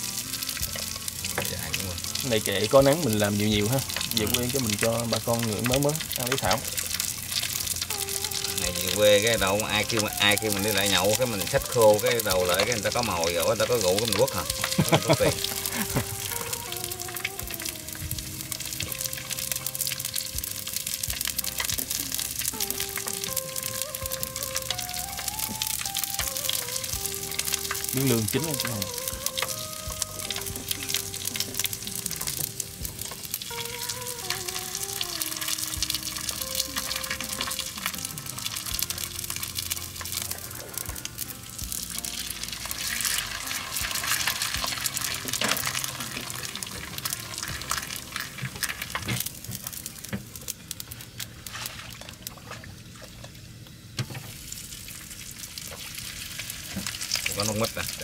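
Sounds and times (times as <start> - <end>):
background music: 0.0 - 51.6
fish sizzling in hot oil: 0.0 - 58.0.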